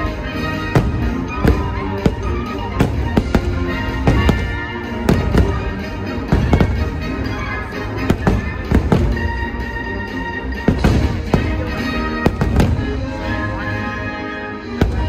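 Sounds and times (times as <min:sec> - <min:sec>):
show music: 0:00.0 - 0:15.0.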